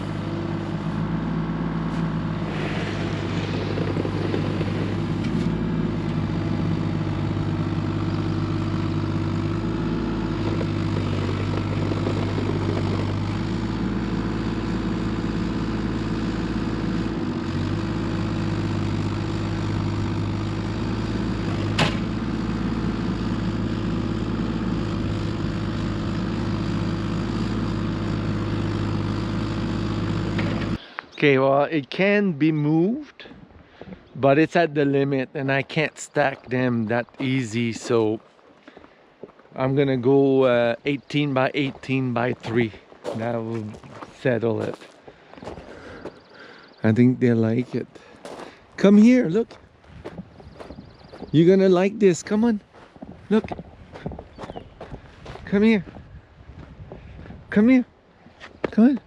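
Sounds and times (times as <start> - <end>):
engine running steadily: 0.0 - 31.1, 32.9 - 59.0.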